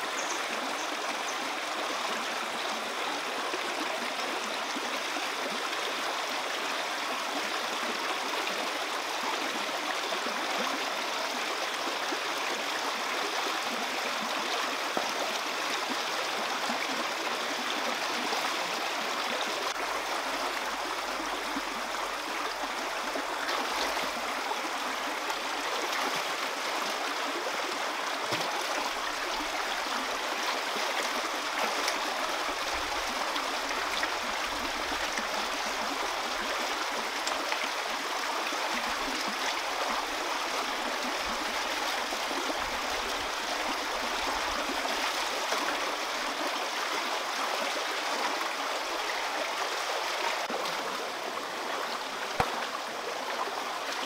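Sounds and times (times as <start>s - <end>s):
stream water rushing and trickling: 0.0s - 54.0s.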